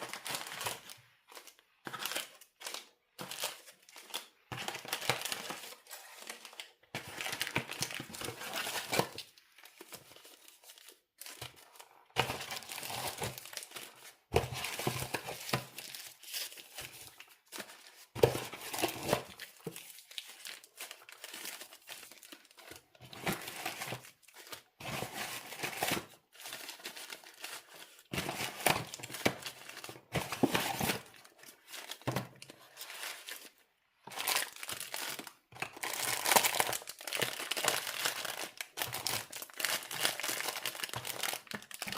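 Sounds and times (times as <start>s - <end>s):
packaging crinkling and tearing: 0.0s - 41.9s.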